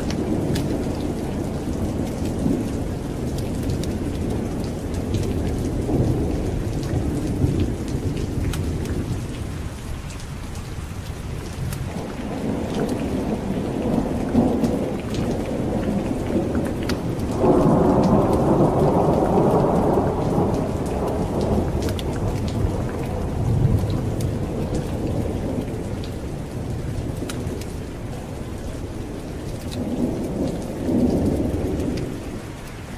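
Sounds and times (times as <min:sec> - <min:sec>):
rolling thunder: 0:00.0 - 0:09.8, 0:11.2 - 0:32.6
raindrop ticks: 0:00.0 - 0:32.9
steady rain: 0:00.0 - 0:32.9.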